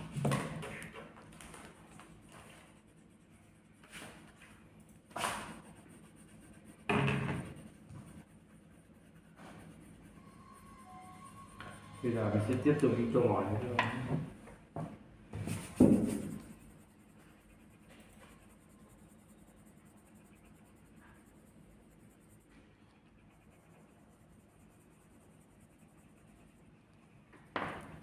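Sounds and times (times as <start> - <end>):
pencil scratching on paper: 1.6 - 14.4, 15.3 - 28.0.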